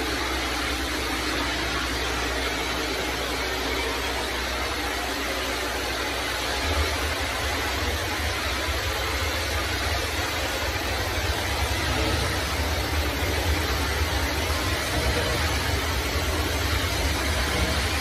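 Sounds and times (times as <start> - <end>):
engine droning: 0.0 - 18.0
high-pressure spray hissing: 0.0 - 18.0.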